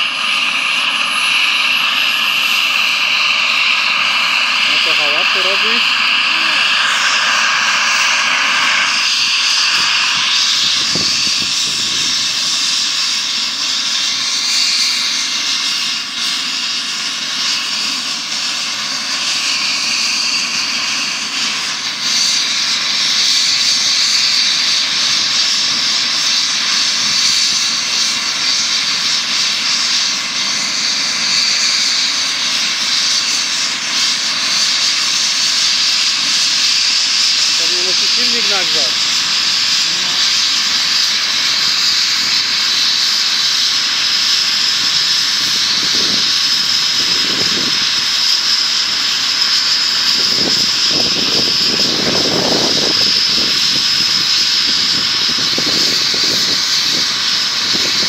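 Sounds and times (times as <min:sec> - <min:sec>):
helicopter turbine whine: 0:00.0 - 0:58.0.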